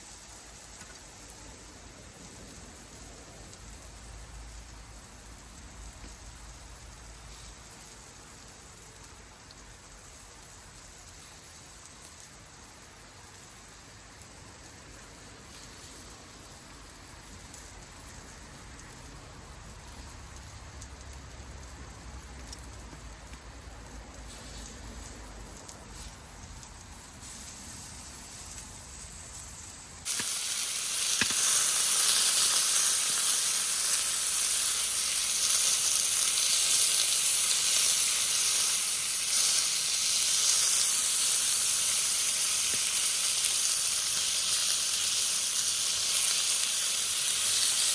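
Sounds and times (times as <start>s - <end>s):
fire crackle: 0.0s - 47.9s
meat sizzling over a campfire: 0.0s - 47.9s.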